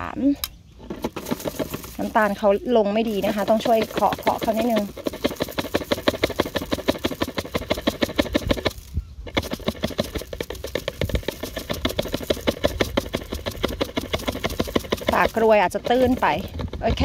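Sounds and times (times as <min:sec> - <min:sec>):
tapping on plastic funnel: 0:00.9 - 0:02.5, 0:03.1 - 0:17.0.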